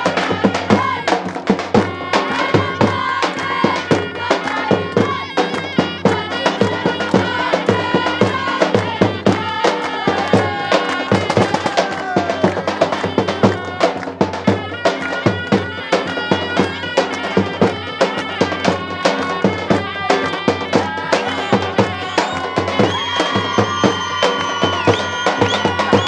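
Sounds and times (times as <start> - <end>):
quick drum beat: 0.0 - 26.0.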